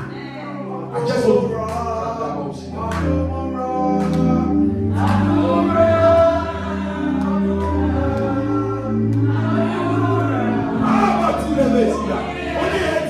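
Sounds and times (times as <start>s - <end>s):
choir singing gospel: 0.0s - 13.0s
held bass notes: 0.0s - 13.0s.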